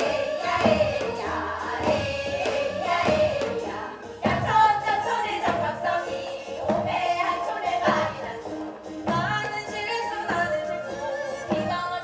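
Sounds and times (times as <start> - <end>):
voices singing folk song: 0.0 - 12.0.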